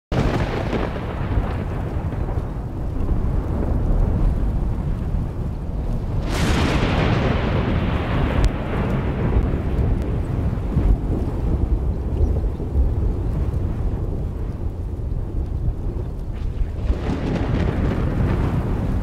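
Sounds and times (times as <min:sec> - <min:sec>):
thunder crack: 0:00.1 - 0:19.0
thunder rumble: 0:00.1 - 0:19.0.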